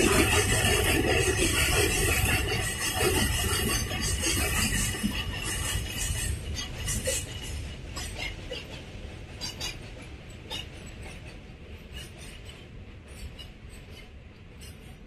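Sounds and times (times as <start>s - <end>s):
distant train rumbling over bridge: 0.0s - 15.0s.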